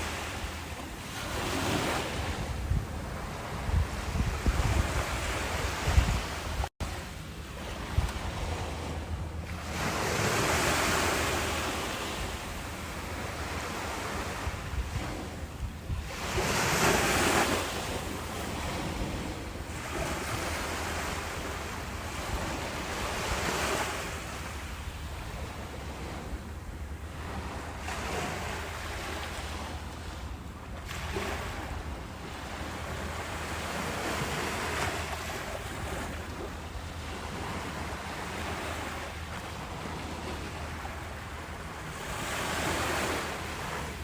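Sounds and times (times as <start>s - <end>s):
ocean waves breaking: 0.0s - 44.0s.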